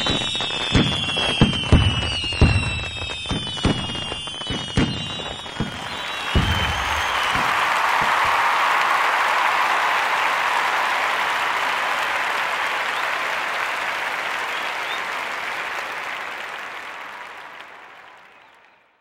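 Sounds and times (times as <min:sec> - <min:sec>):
faint whistles: 0:00.0 - 0:15.8, 0:17.9 - 0:19.0
crowd applauding: 0:02.4 - 0:19.0.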